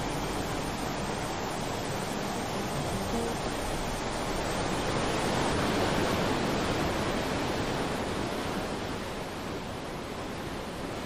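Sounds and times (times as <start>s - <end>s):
fast-flowing floodwater rushing: 0.0s - 11.0s.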